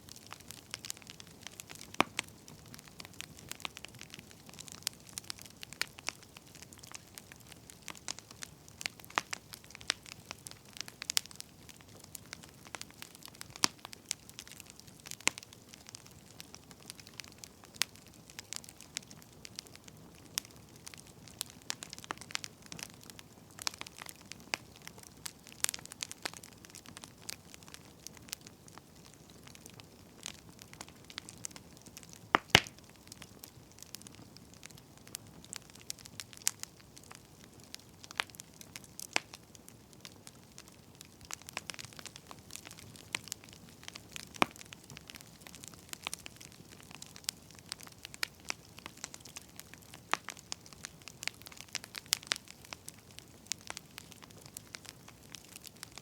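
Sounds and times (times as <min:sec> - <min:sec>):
firewood crackling and popping: 0:00.0 - 0:56.0
low steady hiss: 0:00.0 - 0:56.0.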